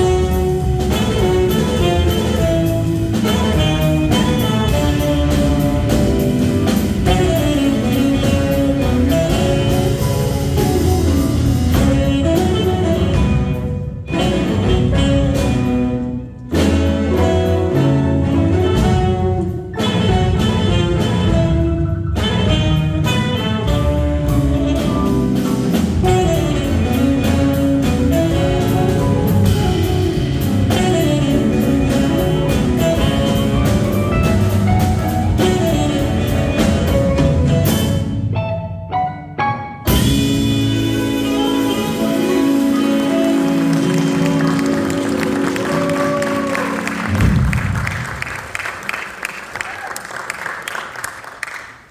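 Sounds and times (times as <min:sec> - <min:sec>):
jazz combo playing live: 0:00.0 - 0:51.9.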